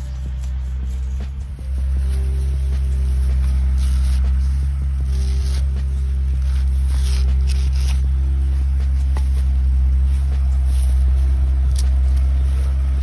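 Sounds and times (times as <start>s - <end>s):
machete scraping roots: 0.0s - 12.7s
low machine hum: 0.0s - 13.0s.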